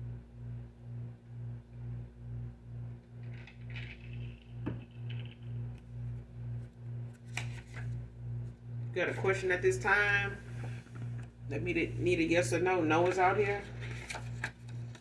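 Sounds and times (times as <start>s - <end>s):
low pulsing hum: 0.0s - 15.0s
steady higher hum: 0.0s - 15.0s.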